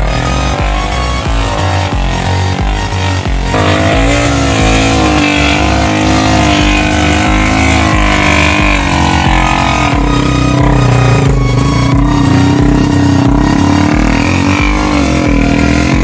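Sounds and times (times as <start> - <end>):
motorcycle engine under throttle: 0.0 - 16.0.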